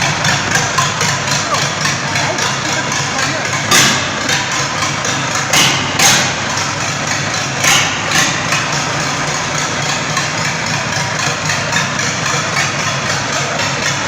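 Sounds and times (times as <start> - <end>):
engine running: 0.0 - 14.0
light regular engine ticking: 0.0 - 14.0
sharp engine knocks: 0.0 - 14.0.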